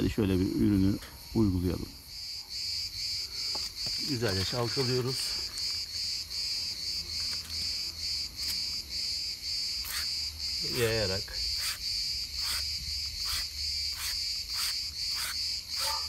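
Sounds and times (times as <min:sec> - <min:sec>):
pulsing insect chirp: 0:00.0 - 0:16.0.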